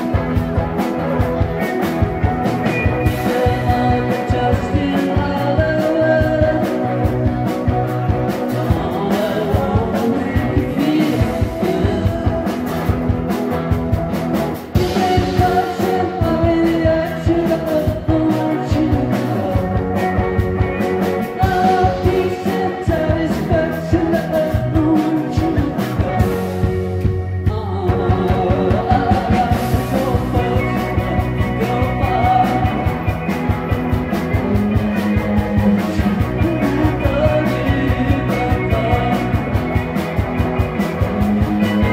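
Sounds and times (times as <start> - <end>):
person singing: 0.0 - 13.7, 14.6 - 41.9
rock band playing: 0.0 - 41.9.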